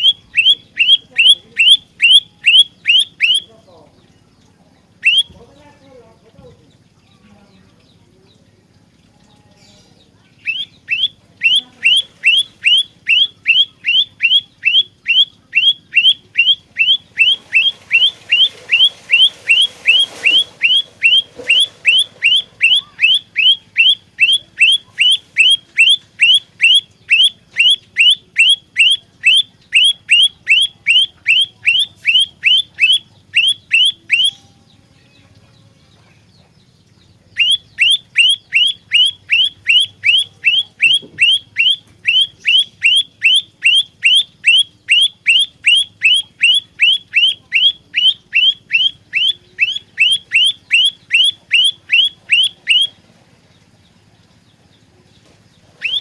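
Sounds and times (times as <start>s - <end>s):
bird singing sharp notes: 0.0s - 4.3s, 5.0s - 6.0s, 9.5s - 53.0s, 55.8s - 56.0s.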